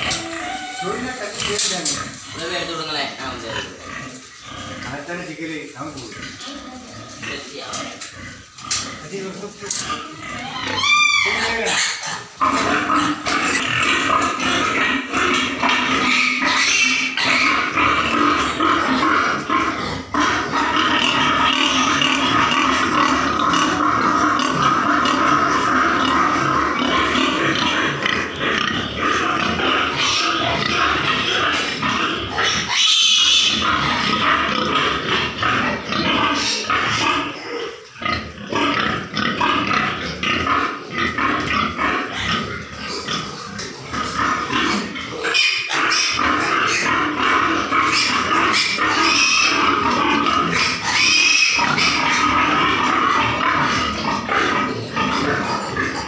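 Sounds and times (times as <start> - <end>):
pigs grunting and calling: 0.0 - 56.0.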